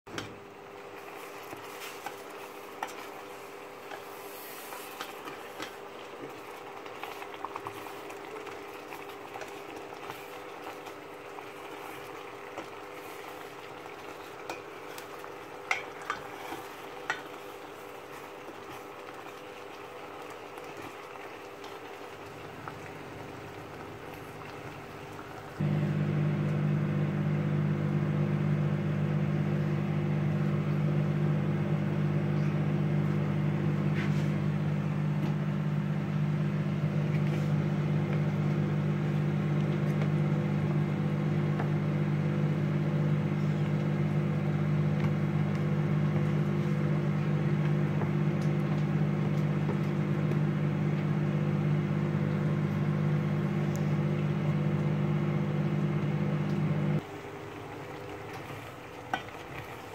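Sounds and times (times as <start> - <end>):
machine electrical hum: 0.1 - 59.9.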